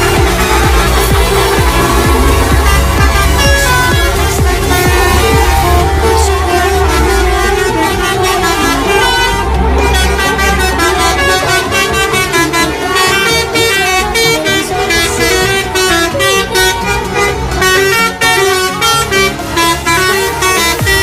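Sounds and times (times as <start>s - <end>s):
bus multi-tone horns: 0.0s - 21.0s.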